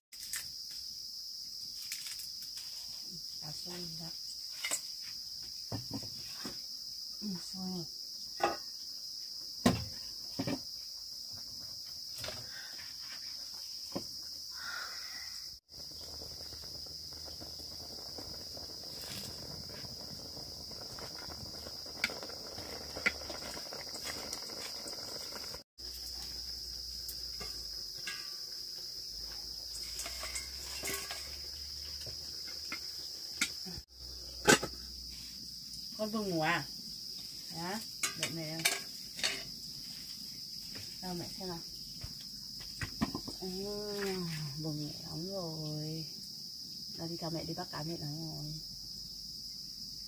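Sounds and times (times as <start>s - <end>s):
insects chirring: 0.2s - 50.0s.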